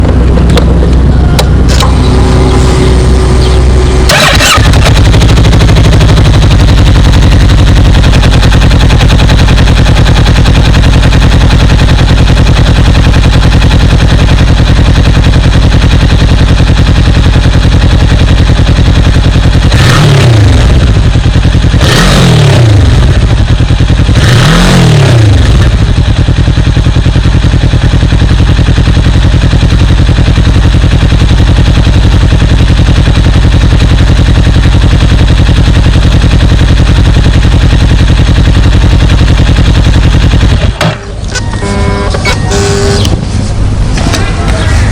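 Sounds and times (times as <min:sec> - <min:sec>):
motorcycle engine idling: 0:00.0 - 0:44.9
motorcycle throttle blips: 0:00.0 - 0:44.9
sharp exhaust crack: 0:00.0 - 0:44.9.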